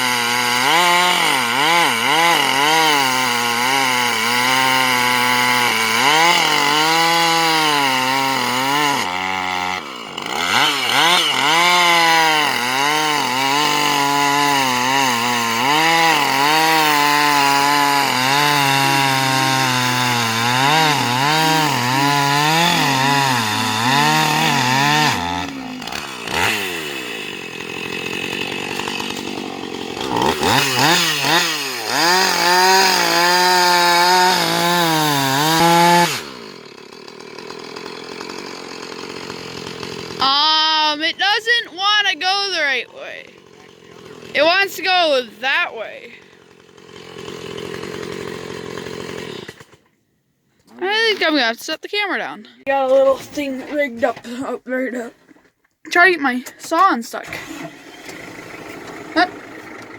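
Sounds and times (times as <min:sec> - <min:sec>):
chainsaw cutting wood: 0:00.0 - 0:54.5, 0:55.2 - 0:59.9.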